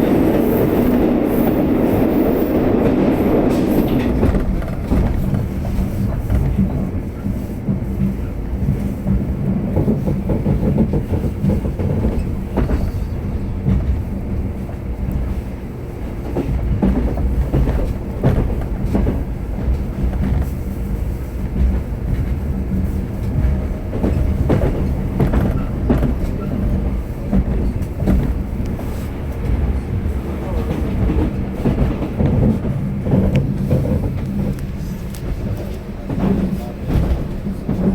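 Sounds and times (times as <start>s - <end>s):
train wheels rumbling: 0.0s - 37.9s.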